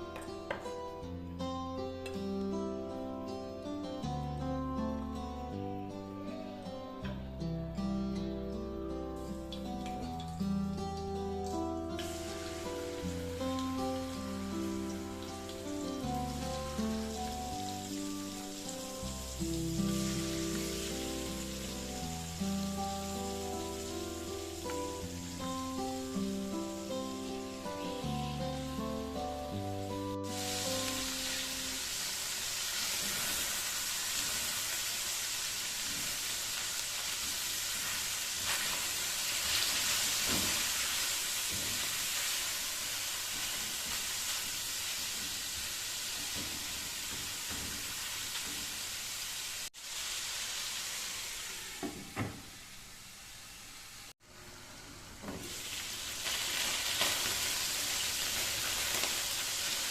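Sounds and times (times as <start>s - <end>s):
food sizzling in a pan: 9.1s - 59.9s.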